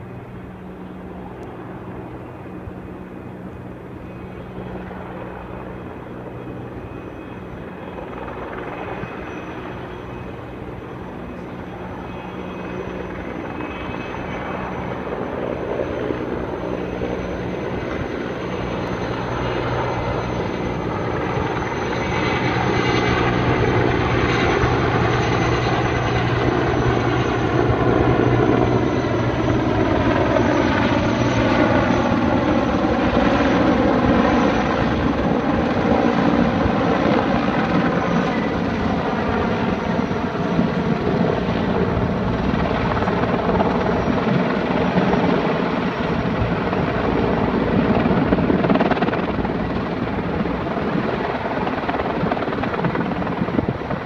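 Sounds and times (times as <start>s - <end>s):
helicopter rotor and turbine: 0.0s - 54.0s.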